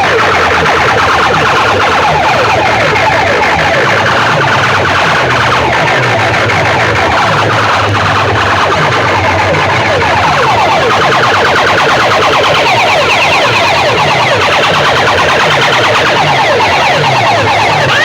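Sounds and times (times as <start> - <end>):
electronic siren sweeps: 0.0 - 18.0
low pulsing bass: 0.0 - 18.0.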